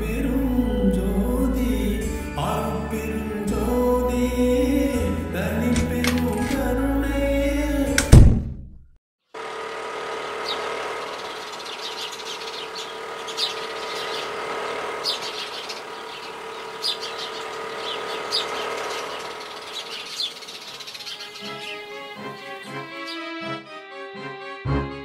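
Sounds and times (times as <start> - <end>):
birds chirping: 0.0 - 7.9, 10.3 - 23.6.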